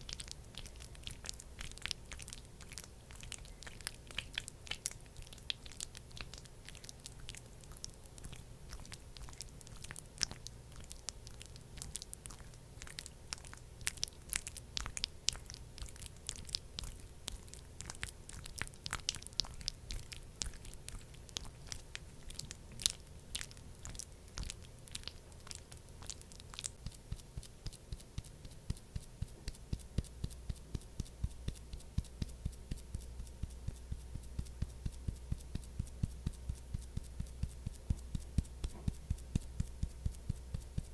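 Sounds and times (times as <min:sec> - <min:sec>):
sticky cream clicking on skin: 0:00.0 - 0:40.9.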